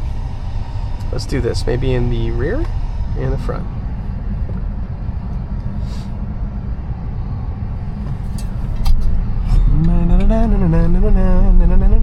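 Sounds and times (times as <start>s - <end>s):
defroster fan blowing: 0.0s - 12.0s.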